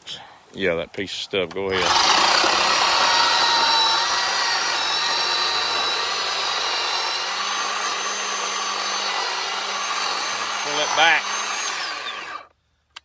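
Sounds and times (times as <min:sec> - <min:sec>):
electric chainsaw motor whine: 0:01.7 - 0:12.5.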